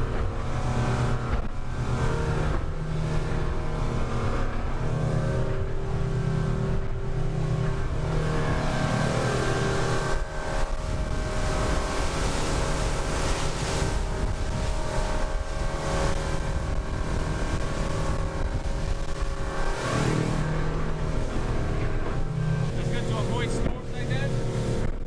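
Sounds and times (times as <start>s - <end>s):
boat motor running: 0.0s - 25.0s
wind and water rushing: 0.0s - 25.0s.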